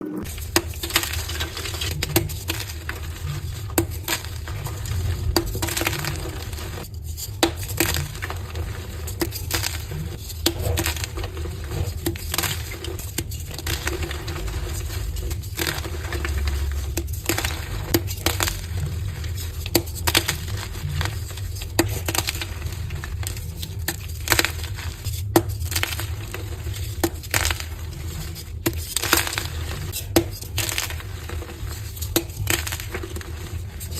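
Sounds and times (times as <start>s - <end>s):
steady low rumble: 0.0s - 28.6s
chalk crunching and crumbling: 0.2s - 33.9s.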